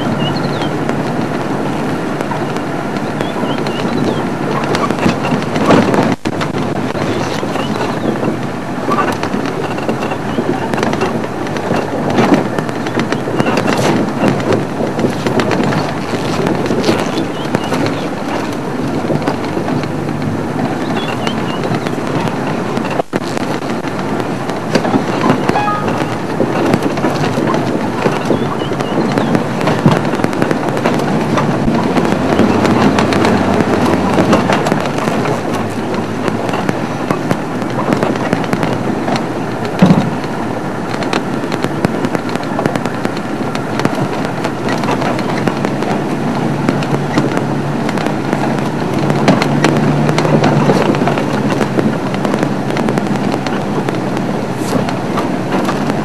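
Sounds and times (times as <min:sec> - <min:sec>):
crackles and knocks from bumpy ride: 0:00.0 - 0:56.0
vehicle engine and road noise: 0:00.0 - 0:56.0.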